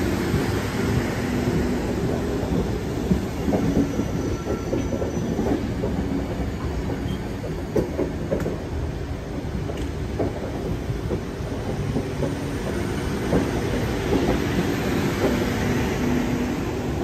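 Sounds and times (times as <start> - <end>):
train rumble: 0.0 - 17.0
train wheels clacking on rail joints: 0.0 - 17.0.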